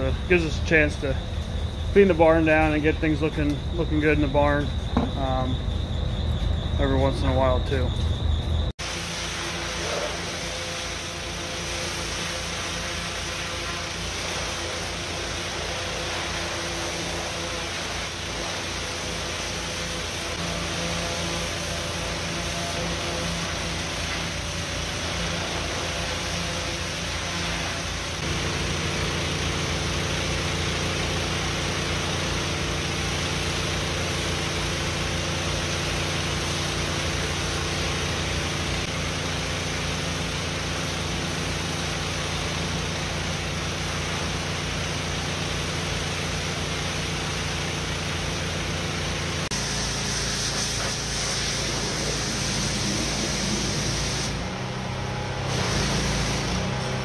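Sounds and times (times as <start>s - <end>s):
pressure washer pump drone: 0.0s - 57.0s
high-pressure water spray hiss: 8.8s - 57.0s.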